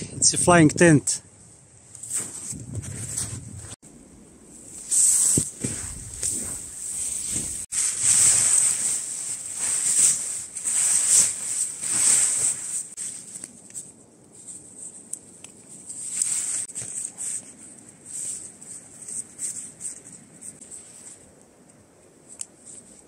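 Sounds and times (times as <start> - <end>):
tent fabric rustling: 2.0 - 3.8, 4.5 - 21.4.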